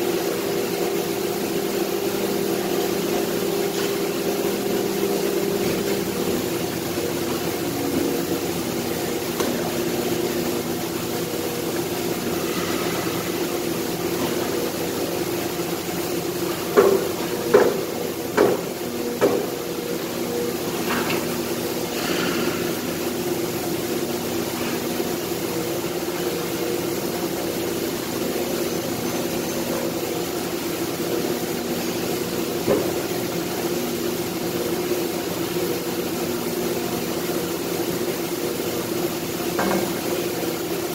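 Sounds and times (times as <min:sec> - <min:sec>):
factory machinery humming: 0:00.0 - 0:40.9.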